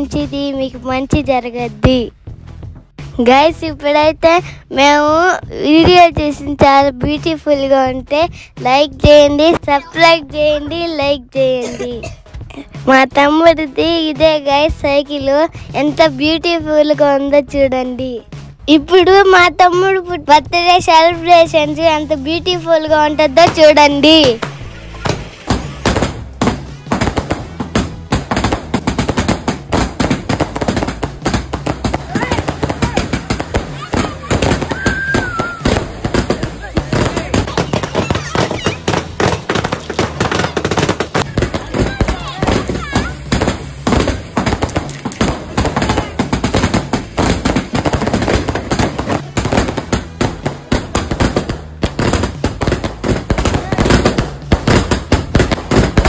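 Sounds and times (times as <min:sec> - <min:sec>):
fireworks and firecrackers: 0:03.0 - 0:56.0.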